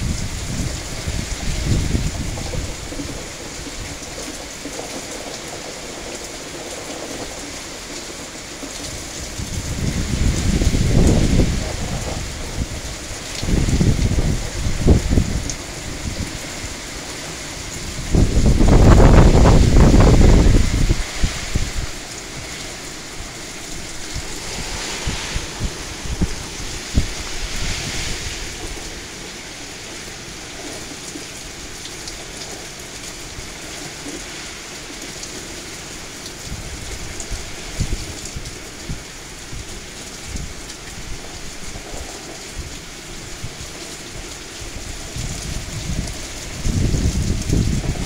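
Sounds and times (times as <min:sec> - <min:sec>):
wind buffeting microphone: 0:00.0 - 0:32.6, 0:35.8 - 0:43.6, 0:44.2 - 0:48.0
heavy rain pouring: 0:00.0 - 0:48.0.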